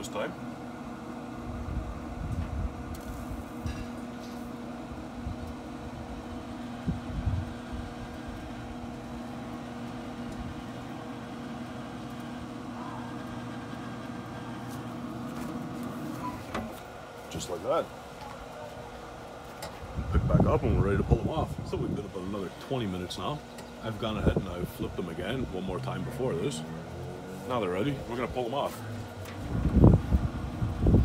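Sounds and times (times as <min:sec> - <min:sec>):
grill fan humming: 0:00.0 - 0:31.0.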